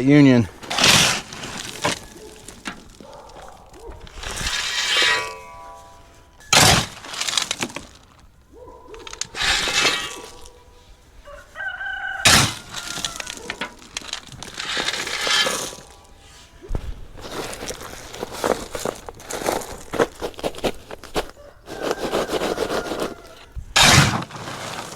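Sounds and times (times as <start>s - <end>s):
gravel rattling in shovel scoops: 0.0s - 24.9s.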